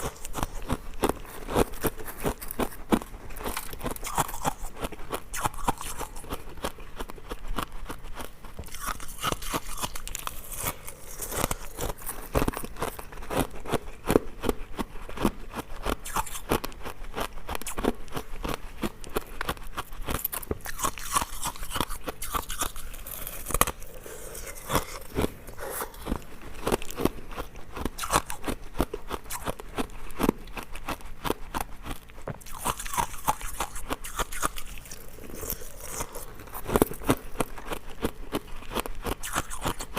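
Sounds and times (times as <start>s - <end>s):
chewing ice cubes crunching: 0.0s - 39.9s.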